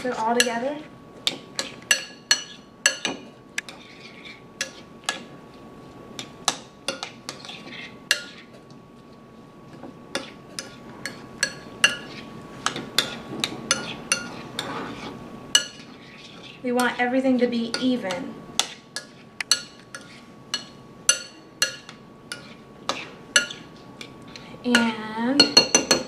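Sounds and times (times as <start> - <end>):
stirred salsa rustling: 0.0 - 25.9.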